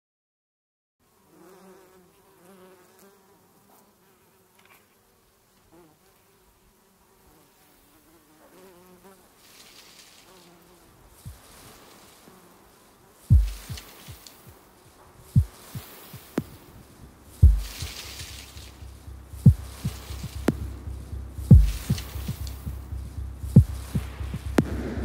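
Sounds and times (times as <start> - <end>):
flying insect buzzing: 1.2 - 5.0, 5.6 - 25.0.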